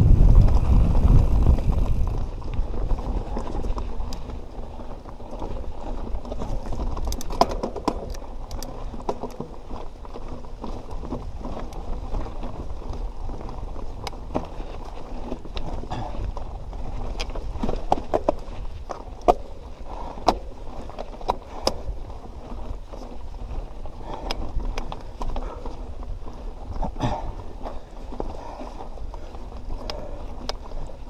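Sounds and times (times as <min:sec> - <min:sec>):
bike clicking and rattling: 0:00.0 - 0:31.0
bike tyres rolling on rocks: 0:00.0 - 0:31.0.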